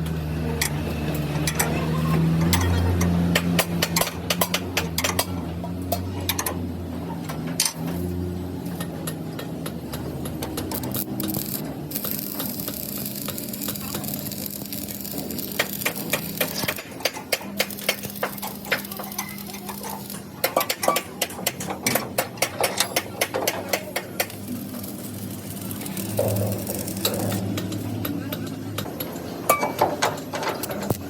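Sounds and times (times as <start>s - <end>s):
machine hum with crackling: 0.0s - 31.0s
sharp metallic clicks and taps: 2.4s - 6.6s, 8.6s - 24.5s, 25.7s - 31.0s.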